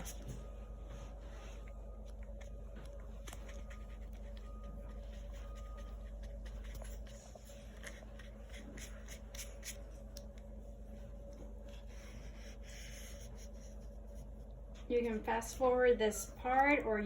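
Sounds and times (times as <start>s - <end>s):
paintbrush strokes on paper: 0.0s - 15.2s
steady low hum: 0.0s - 17.0s.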